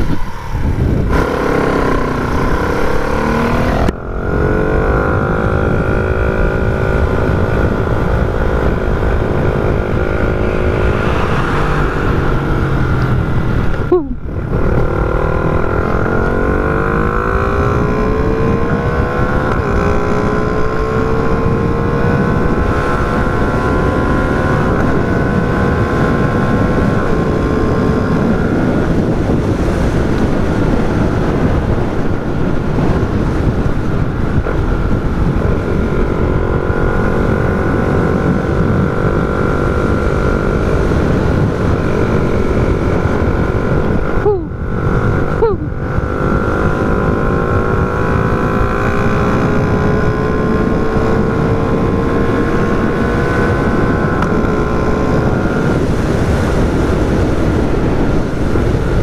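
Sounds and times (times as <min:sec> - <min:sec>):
small motorcycle engine: 0:00.0 - 0:59.0
wind rumble on microphone: 0:00.0 - 0:59.0.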